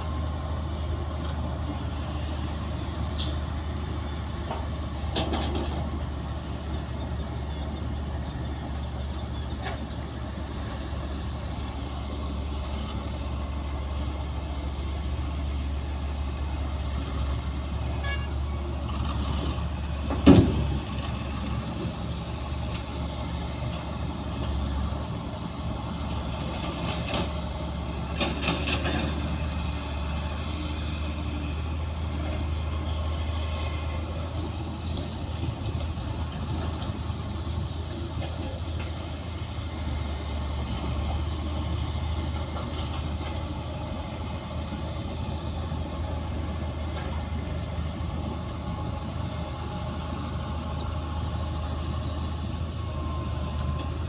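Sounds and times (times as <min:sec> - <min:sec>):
diesel machinery engine droning: 0:00.0 - 0:54.0.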